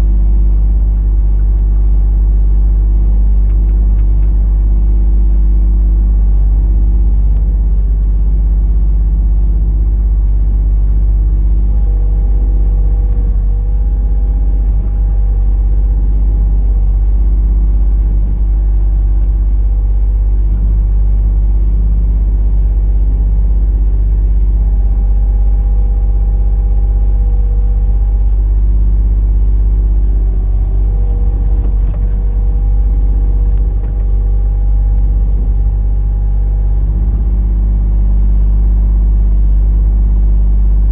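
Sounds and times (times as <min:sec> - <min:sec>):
excavator engine rumbling: 0:00.0 - 0:40.9
high-pitched whine: 0:00.0 - 0:40.9.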